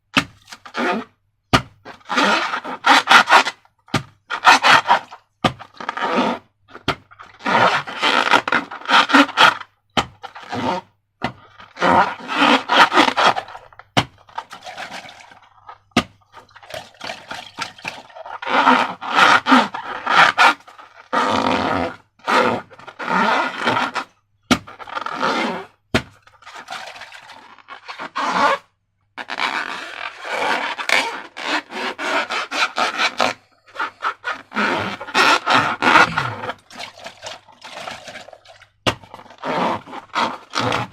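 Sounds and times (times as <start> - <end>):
slime squelching and scraping: 1.8 - 10.8, 11.5 - 21.1, 22.4 - 40.9.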